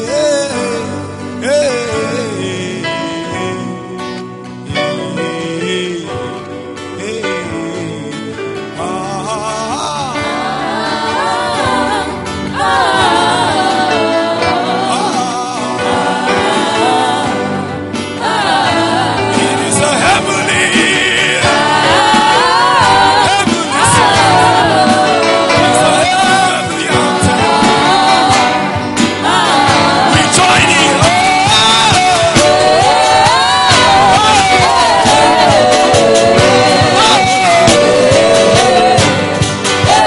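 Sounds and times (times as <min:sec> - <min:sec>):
band playing: 0:00.0 - 0:40.0
singers on microphones: 0:00.0 - 0:40.0.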